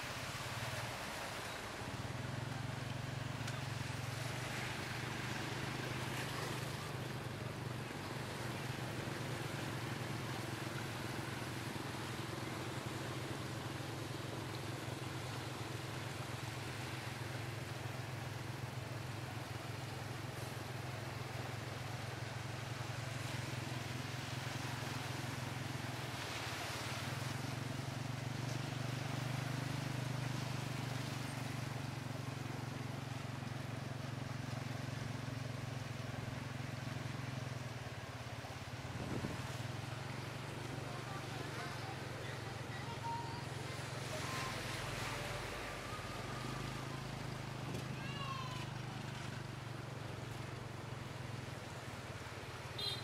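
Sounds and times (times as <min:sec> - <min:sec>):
water washing and road noise: 0:00.0 - 0:53.0.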